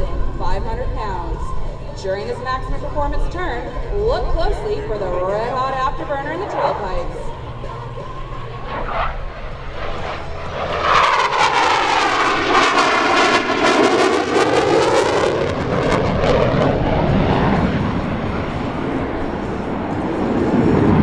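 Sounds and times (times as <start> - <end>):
jet engines roaring in afterburner: 0.0 - 21.0.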